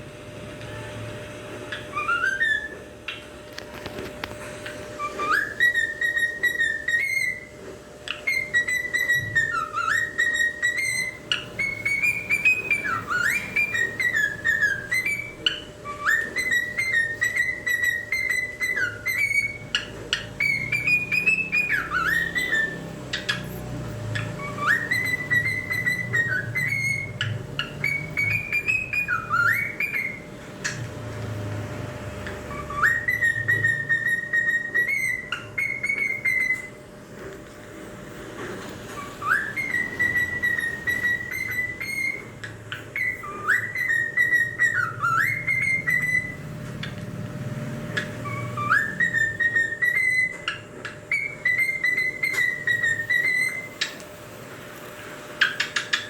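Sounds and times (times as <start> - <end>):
cockatiel whistling: 1.6 - 30.8, 32.2 - 36.9, 38.9 - 54.0, 55.3 - 56.0.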